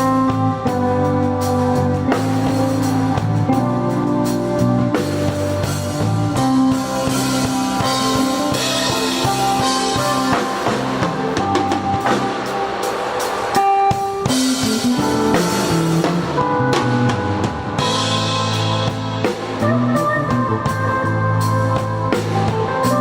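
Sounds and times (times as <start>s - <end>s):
instrumental band music: 0.0s - 23.0s.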